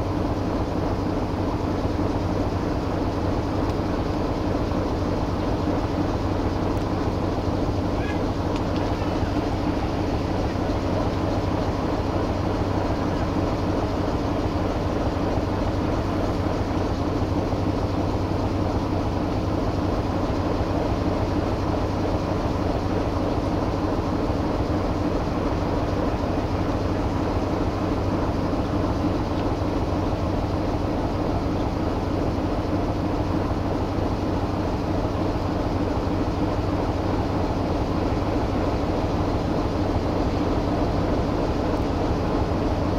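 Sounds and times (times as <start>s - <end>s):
locomotive engine running: 0.0s - 42.9s.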